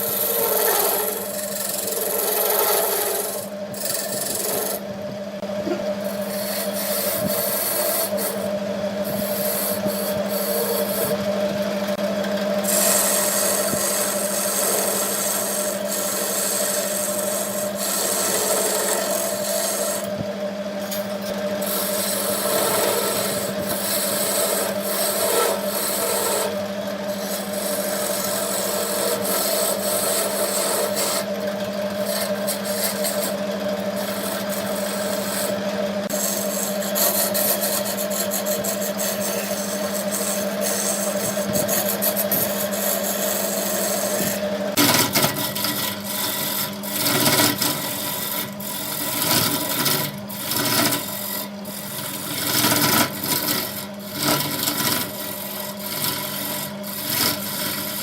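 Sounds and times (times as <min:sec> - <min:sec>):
tool scraping spinning wood: 0:00.0 - 0:58.0
wood lathe motor hum: 0:00.0 - 0:58.0.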